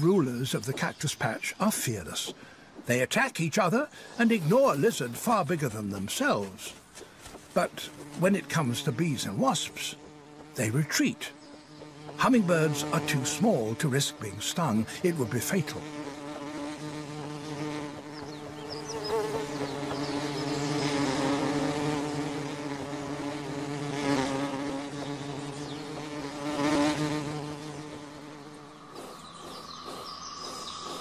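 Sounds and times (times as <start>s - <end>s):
insect wings buzzing: 0.0s - 31.0s.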